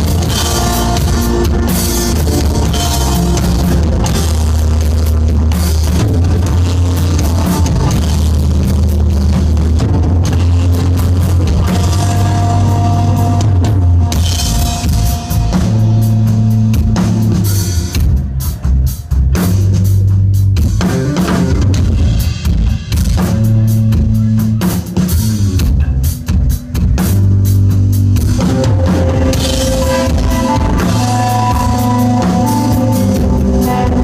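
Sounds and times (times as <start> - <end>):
electric guitar: 0.0 - 18.6, 20.6 - 34.0
bass guitar: 0.0 - 34.0
drum kit: 0.0 - 34.0.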